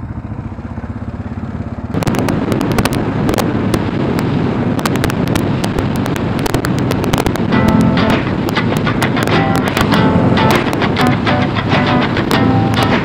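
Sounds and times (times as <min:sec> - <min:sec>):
motorcycle engine: 0:00.0 - 0:13.0
wind noise: 0:01.9 - 0:13.0.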